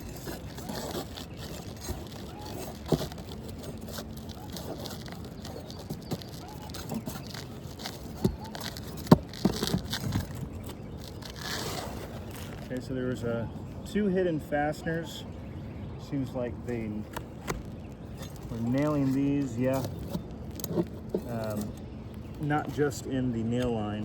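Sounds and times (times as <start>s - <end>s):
roof shingles scraping: 0.0s - 12.8s, 16.7s - 23.8s.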